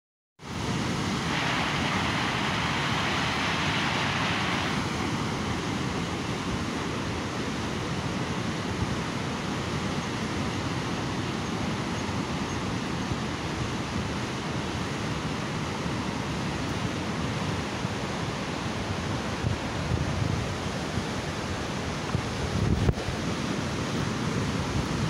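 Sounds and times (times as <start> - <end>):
mountain stream rushing over boulders: 0.4 - 25.0.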